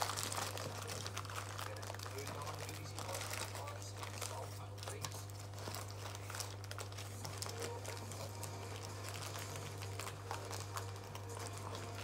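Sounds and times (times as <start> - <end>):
paper bag and wrappers rustling: 0.0 - 12.0.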